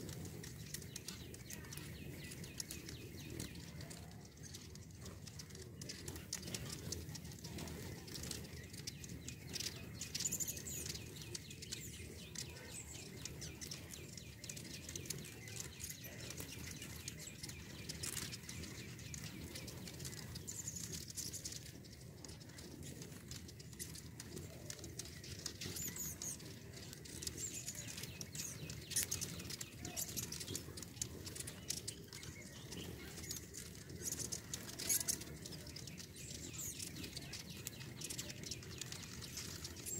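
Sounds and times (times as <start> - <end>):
high-pitched bird chips: 0.0 - 39.9
hummingbird wings humming: 0.0 - 39.9.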